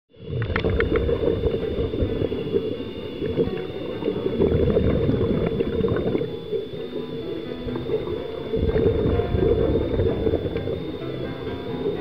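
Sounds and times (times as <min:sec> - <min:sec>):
bubbling: 0:00.1 - 0:12.0
muffled underwater rumble: 0:00.1 - 0:12.0
steady high whine: 0:00.1 - 0:12.0.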